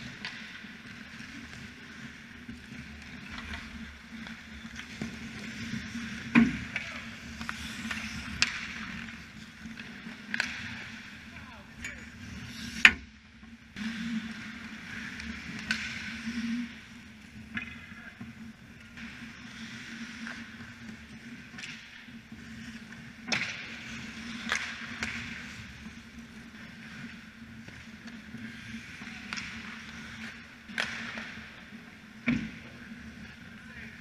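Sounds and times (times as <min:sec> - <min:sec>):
hockey sticks and puck clacking: 0:00.0 - 0:34.0
skates scraping on ice: 0:00.0 - 0:34.0.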